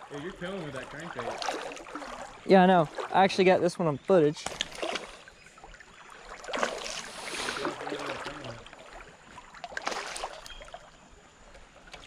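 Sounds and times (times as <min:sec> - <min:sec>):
sharp splashes: 0:00.0 - 0:03.4, 0:04.4 - 0:10.9
creek water splashing: 0:00.0 - 0:12.0.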